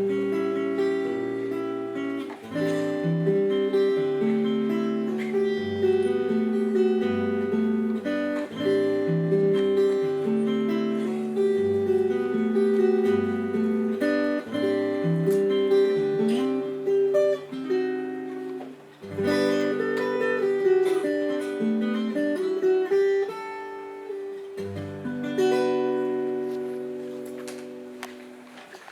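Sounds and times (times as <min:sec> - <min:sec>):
fingerstyle acoustic guitar: 0:00.0 - 0:28.9.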